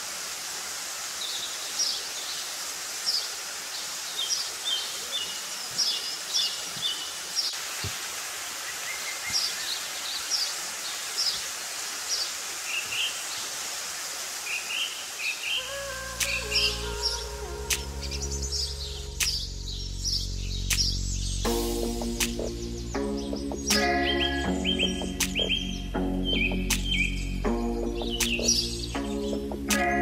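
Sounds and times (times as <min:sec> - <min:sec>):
steady outdoor hiss: 0:00.0 - 0:30.0
songbirds chirping: 0:01.1 - 0:30.0.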